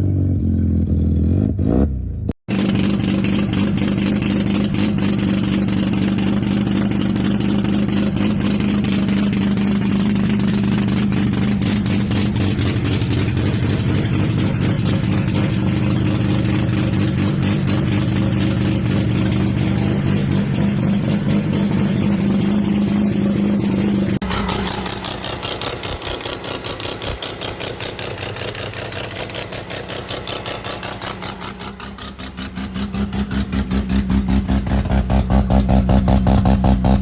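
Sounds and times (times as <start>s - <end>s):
rotary engine running steadily: 2.5s - 37.0s.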